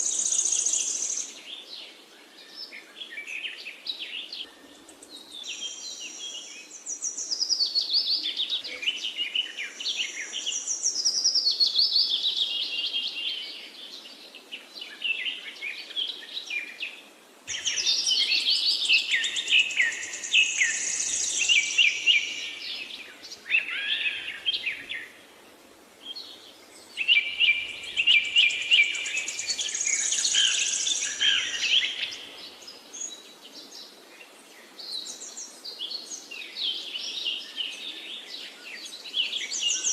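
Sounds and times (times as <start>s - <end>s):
flock of small birds chirping: 0.0s - 25.3s, 26.0s - 39.9s.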